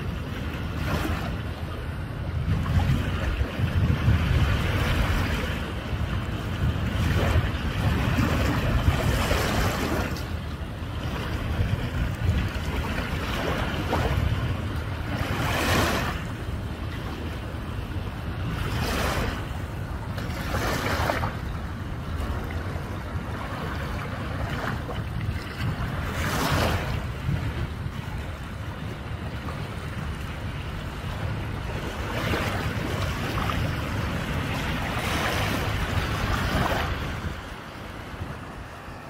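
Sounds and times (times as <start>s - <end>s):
waves lapping on pebbly shore: 0.0s - 16.4s, 17.0s - 39.0s
wind rumbling on microphone: 0.0s - 39.0s.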